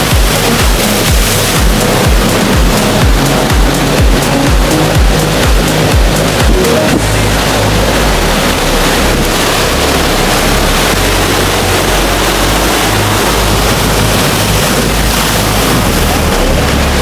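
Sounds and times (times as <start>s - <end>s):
surf on a rocky shore: 0.0s - 17.0s
wind buffeting microphone: 0.0s - 17.0s.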